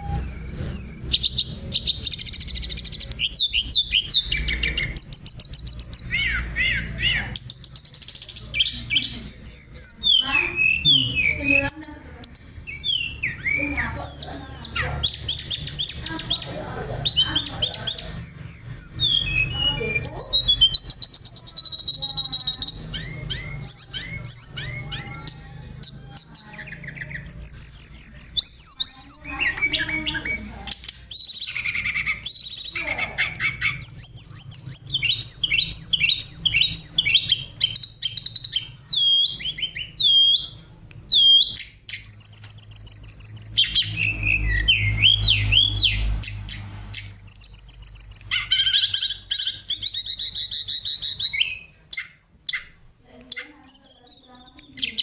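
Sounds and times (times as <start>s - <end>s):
songbird singing whistles and trills: 0.0s - 55.0s.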